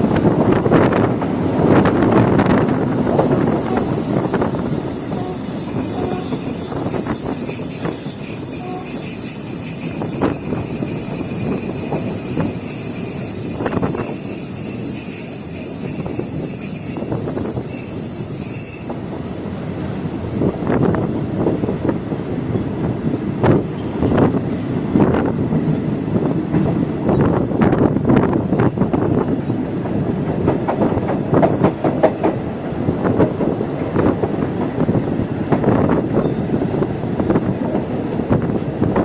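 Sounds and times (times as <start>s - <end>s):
train rumbling: 0.0s - 39.0s.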